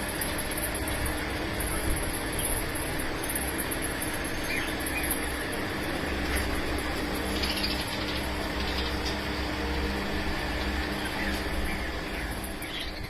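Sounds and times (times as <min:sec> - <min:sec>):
cage birds chirping: 0:00.0 - 0:13.0
steady low hum: 0:00.0 - 0:13.0.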